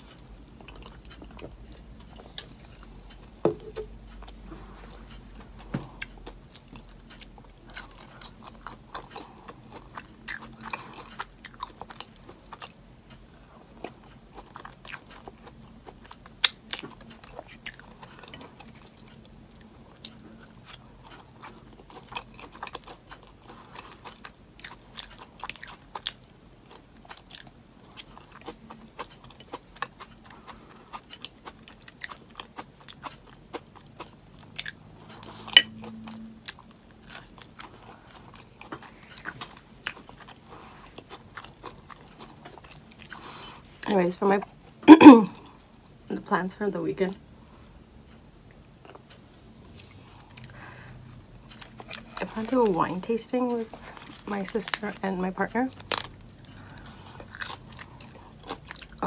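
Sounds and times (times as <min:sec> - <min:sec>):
person chewing crunchy fries: 0:00.0 - 0:46.1, 0:47.1 - 0:59.0.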